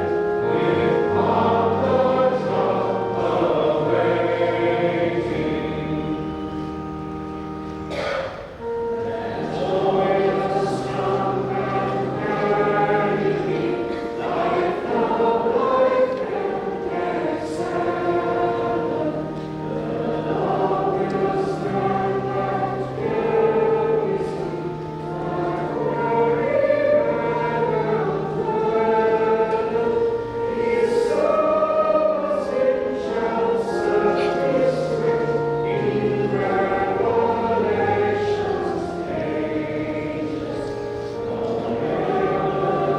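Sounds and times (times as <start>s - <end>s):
congregation and choir singing hymn: 0.0s - 42.9s
held accompaniment notes: 0.0s - 42.9s.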